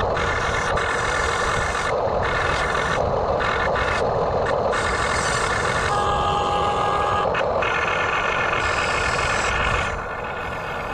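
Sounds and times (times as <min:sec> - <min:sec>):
high whine: 0:00.0 - 0:10.9
toy excavator motor droning: 0:00.0 - 0:10.9.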